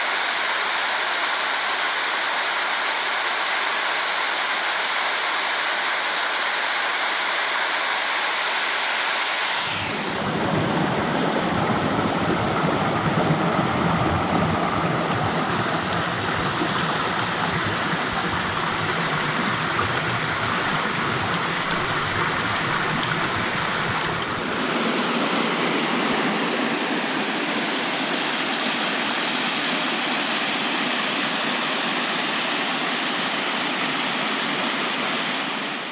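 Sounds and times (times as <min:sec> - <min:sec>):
waterfall rushing: 0:00.0 - 0:30.2.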